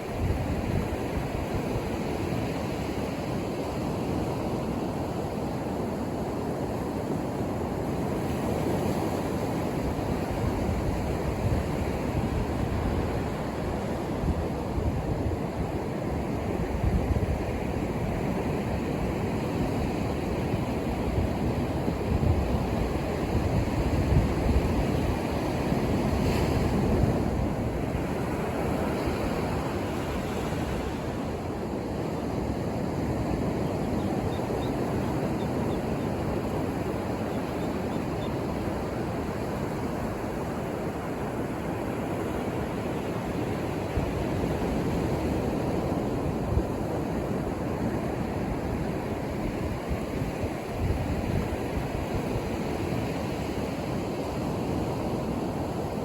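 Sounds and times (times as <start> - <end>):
waves breaking on a beach: 0.0 - 56.0
wind rumble on microphone: 0.0 - 56.0.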